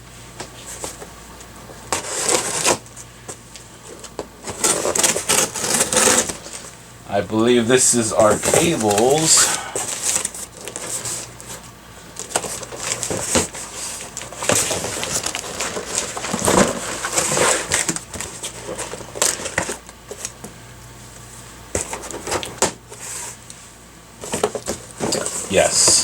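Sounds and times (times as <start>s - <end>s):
plastic and cardboard rustling: 0.4s - 1.1s, 1.9s - 6.8s, 7.4s - 20.5s, 21.7s - 23.4s, 24.2s - 26.0s.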